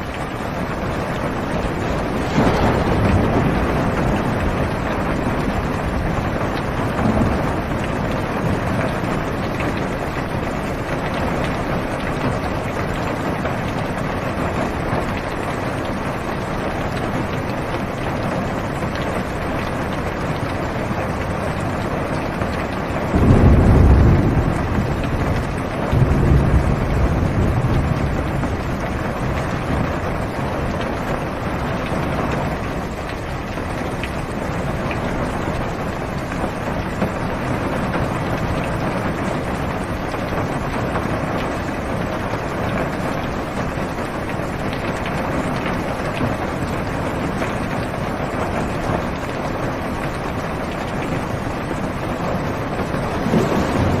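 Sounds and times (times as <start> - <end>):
rain on a car roof: 0.0 - 54.0
thunder rumbling: 0.1 - 21.8, 22.4 - 45.6, 50.3 - 54.0.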